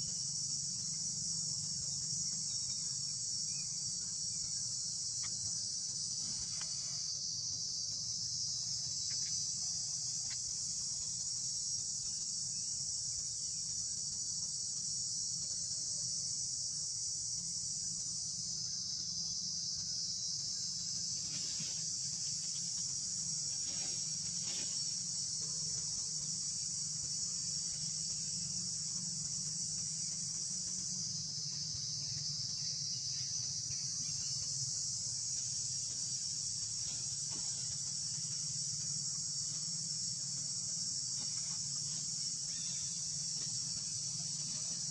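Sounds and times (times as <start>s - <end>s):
faint low hum: 0.0s - 44.9s
high-pitched insect chorus: 0.0s - 44.9s.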